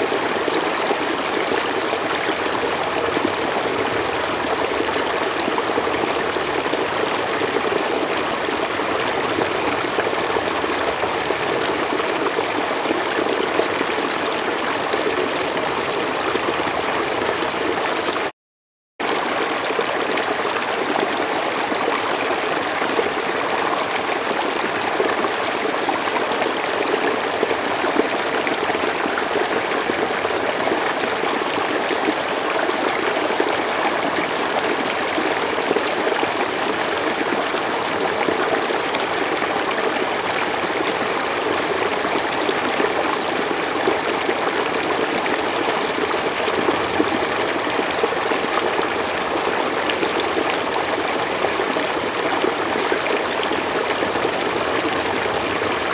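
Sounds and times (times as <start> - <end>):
river water flowing: 0.0 - 18.2, 19.0 - 55.9.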